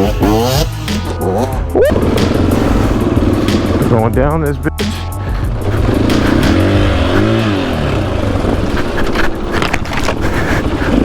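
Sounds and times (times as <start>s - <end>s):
dirt bike engine revving: 0.0s - 11.0s
rough riding noise: 0.0s - 11.0s.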